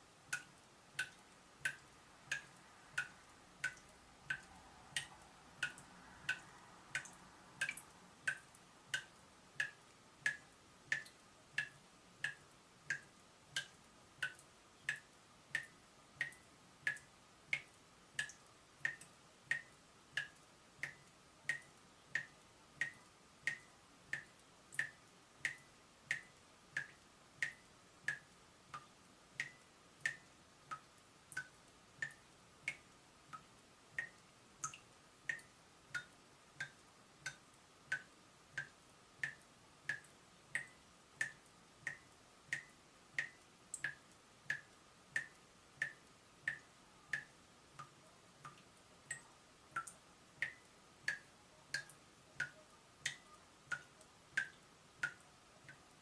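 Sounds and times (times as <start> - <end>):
tap dripping water drops: 0.3 - 55.9.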